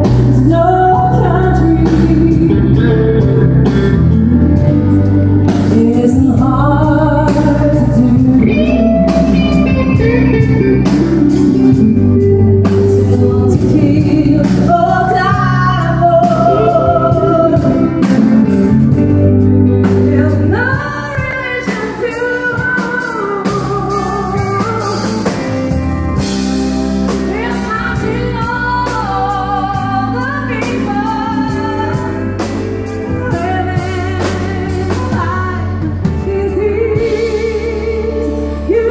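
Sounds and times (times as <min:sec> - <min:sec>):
woman singing country song: 0:00.0 - 0:25.4, 0:27.1 - 0:38.9
drums with steady beat: 0:00.0 - 0:37.8
electric keyboard: 0:00.0 - 0:38.9.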